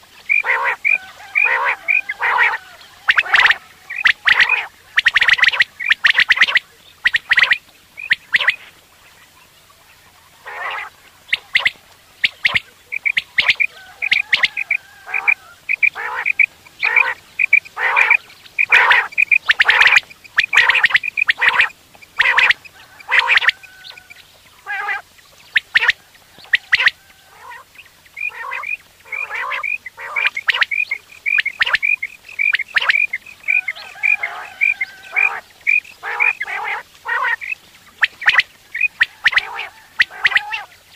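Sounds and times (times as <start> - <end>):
harsh quail calls: 0.0 - 40.9
quails chirping: 0.0 - 40.9.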